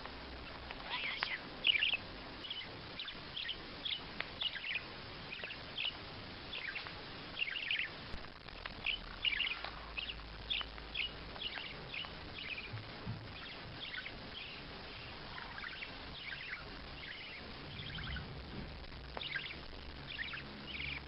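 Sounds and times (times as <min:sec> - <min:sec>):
bird chirping: 0:00.5 - 0:08.0, 0:08.6 - 0:21.0.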